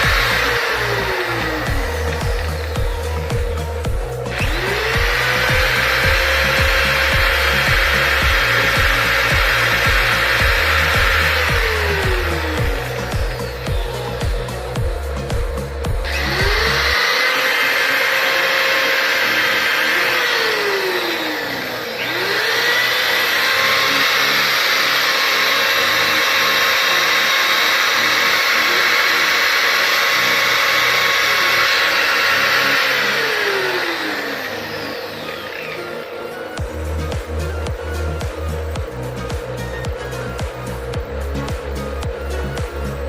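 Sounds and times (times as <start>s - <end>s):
small electric motor whining: 0.0s - 43.0s.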